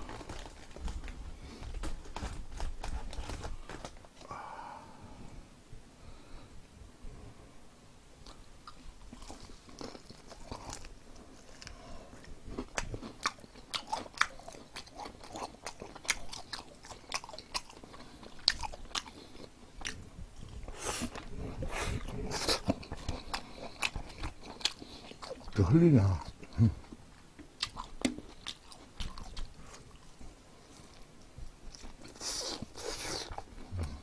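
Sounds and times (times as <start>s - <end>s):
crunching and chewing fried chicken: 0.0s - 4.3s, 8.2s - 34.0s.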